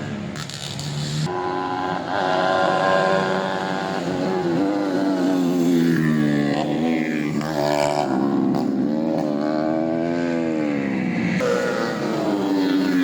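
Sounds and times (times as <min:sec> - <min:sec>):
motorcycle engines revving high: 0:00.0 - 0:13.0.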